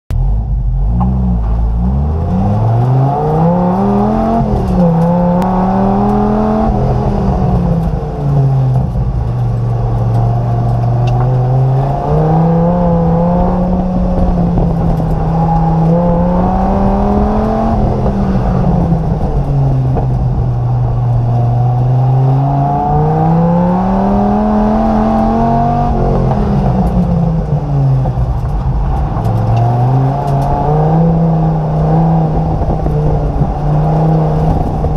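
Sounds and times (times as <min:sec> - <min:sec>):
race car engine accelerating: 0:00.2 - 0:34.9.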